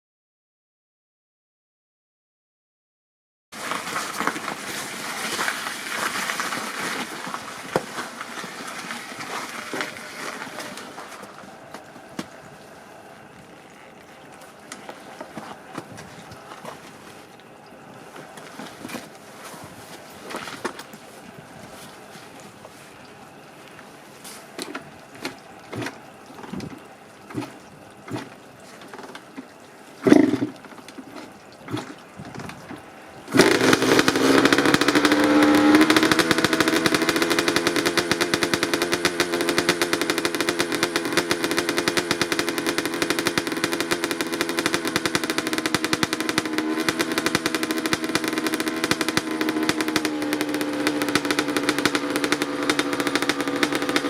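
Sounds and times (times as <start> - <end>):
dirt bike engine starting and idling: 3.6 - 54.0.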